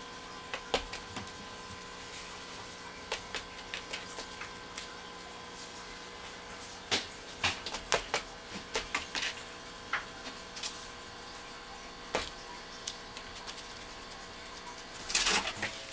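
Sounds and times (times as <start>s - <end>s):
steady background hum: 0.0s - 15.9s.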